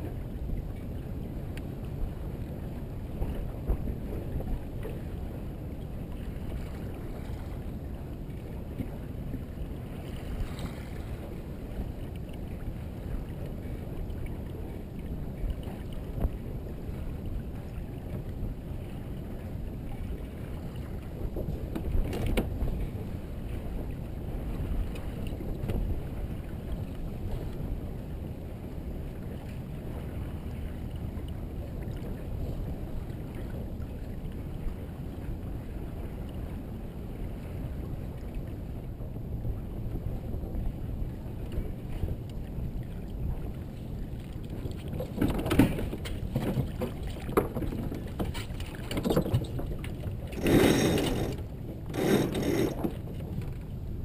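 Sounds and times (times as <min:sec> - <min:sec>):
water along hull: 0:00.0 - 0:54.0
wind on microphone: 0:00.0 - 0:54.0.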